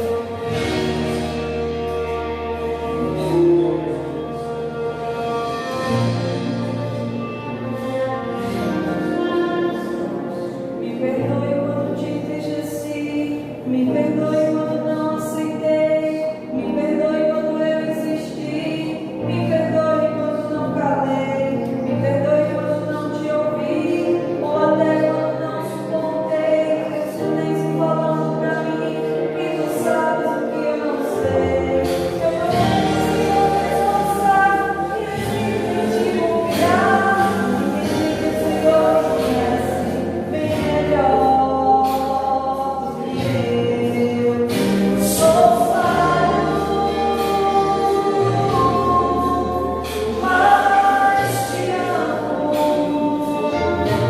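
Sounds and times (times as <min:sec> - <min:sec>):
choir singing a hymn: 0:00.0 - 0:21.5, 0:22.6 - 0:54.0
instrumental accompaniment: 0:00.0 - 0:54.0.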